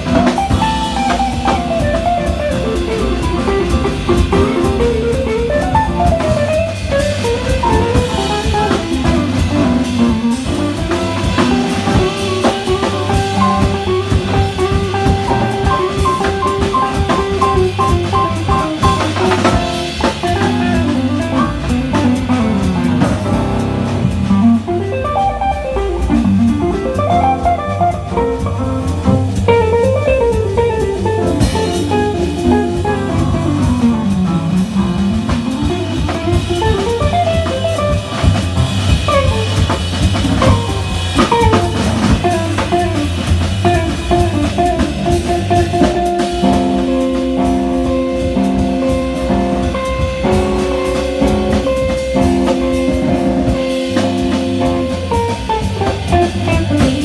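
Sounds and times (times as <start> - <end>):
drum kit: 0.0 - 57.0
piano: 0.0 - 57.0.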